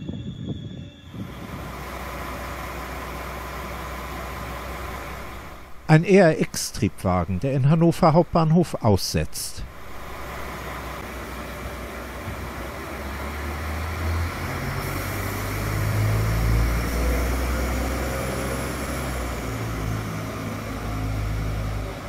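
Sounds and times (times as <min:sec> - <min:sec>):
railcar diesel engines running: 0:00.0 - 0:22.0.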